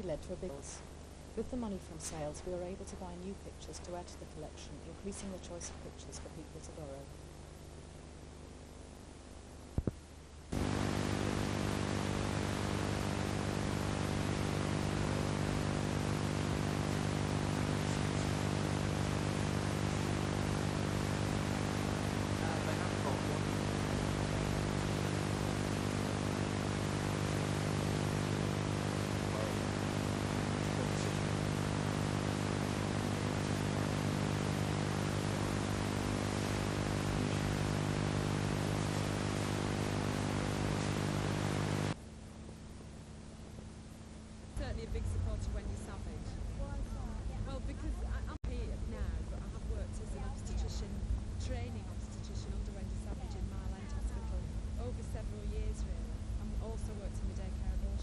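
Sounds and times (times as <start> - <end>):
electrical hum and buzz: 0.0 - 58.0
tape hiss: 0.0 - 58.0.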